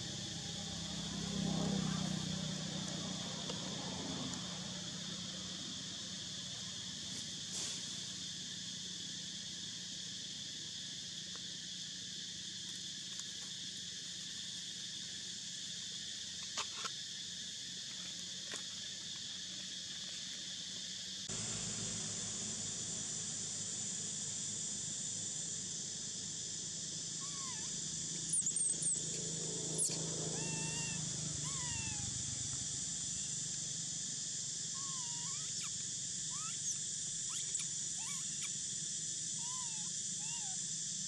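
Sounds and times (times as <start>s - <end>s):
insect chorus buzzing: 0.0s - 41.0s.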